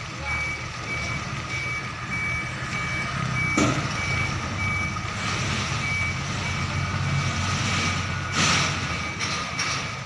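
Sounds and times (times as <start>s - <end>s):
reversing alarm beeping: 0.0s - 10.0s.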